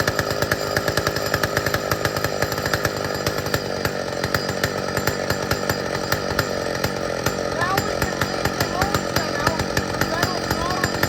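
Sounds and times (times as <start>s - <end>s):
chainsaw engine running: 0.0s - 11.0s.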